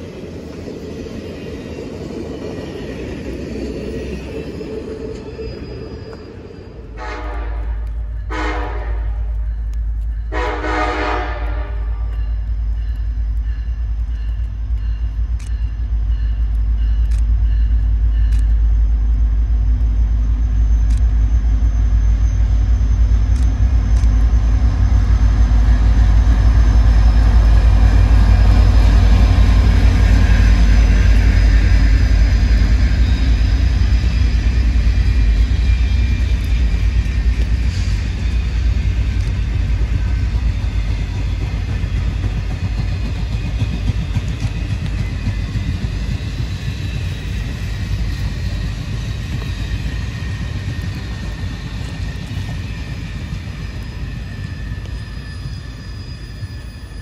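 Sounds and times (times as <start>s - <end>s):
diesel locomotive engines rumbling: 0.0s - 57.0s
train cars rolling past: 0.0s - 57.0s.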